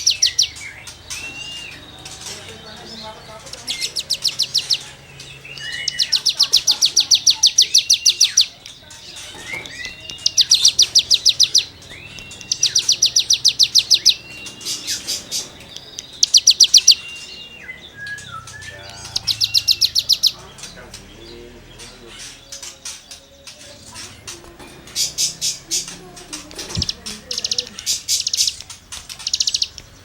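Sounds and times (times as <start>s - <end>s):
songbird scratchy rapid notes: 0.0s - 30.0s.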